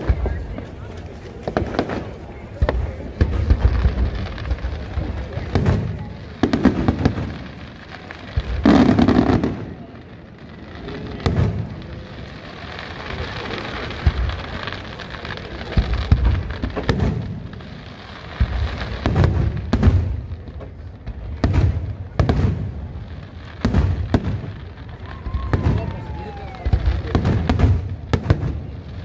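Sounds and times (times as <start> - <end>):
firework hiss and crackle: 0.0 - 29.0
firework shells booming: 0.0 - 29.0.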